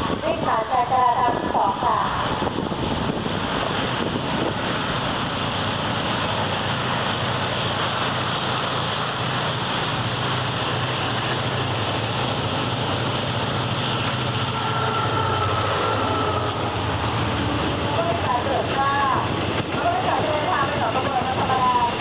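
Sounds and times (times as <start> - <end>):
diesel locomotive engine hum: 0.0 - 22.0
wind noise on microphone: 0.0 - 22.0.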